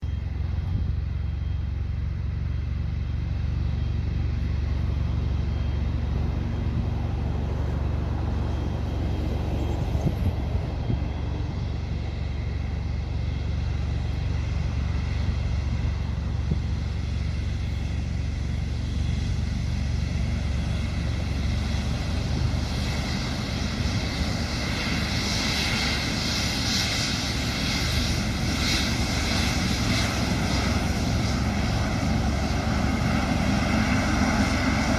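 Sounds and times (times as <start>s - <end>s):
jet engines whining and rumbling: 0.0s - 34.9s.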